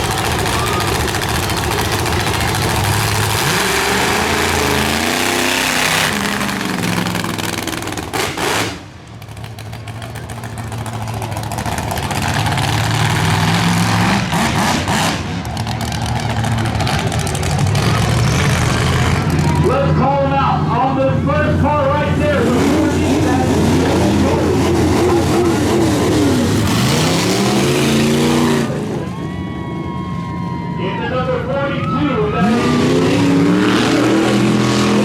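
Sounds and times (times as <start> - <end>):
racing engines revving: 0.0 - 35.0.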